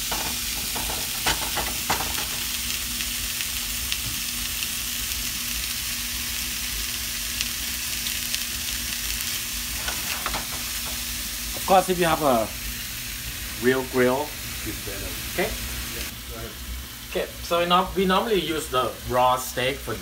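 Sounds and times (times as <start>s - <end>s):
beef sizzling in a frying pan: 0.0s - 20.0s.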